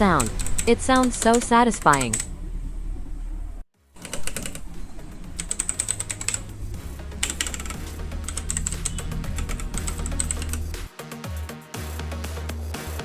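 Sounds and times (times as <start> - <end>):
background music with bass: 2.3 - 13.0.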